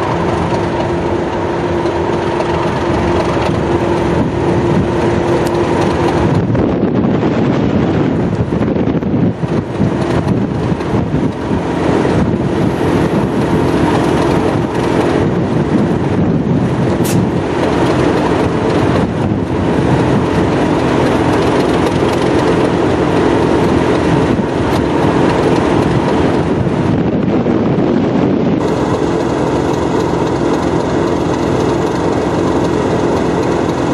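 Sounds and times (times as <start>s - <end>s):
diesel locomotive engine drone: 0.0s - 33.9s.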